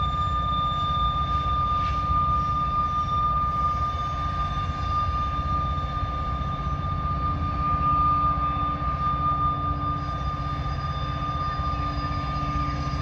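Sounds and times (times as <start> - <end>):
diesel locomotive engine rumble: 0.0 - 13.0
high-pitched whine: 0.0 - 13.0.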